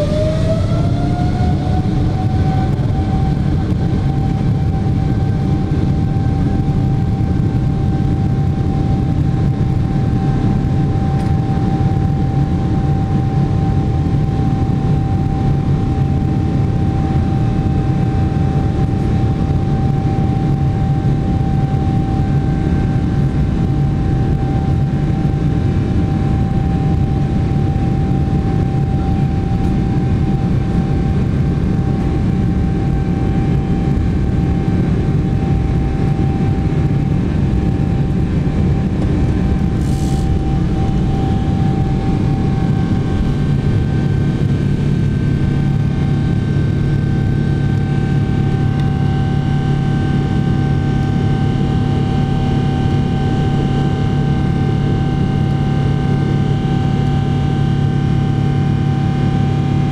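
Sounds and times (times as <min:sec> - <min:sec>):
jet engine rumble and whine: 0:00.0 - 0:59.9.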